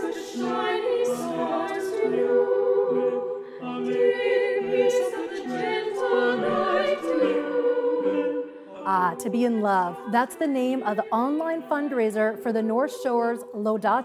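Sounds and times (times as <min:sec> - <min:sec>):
mixed choir singing a cappella: 0:00.0 - 0:14.0.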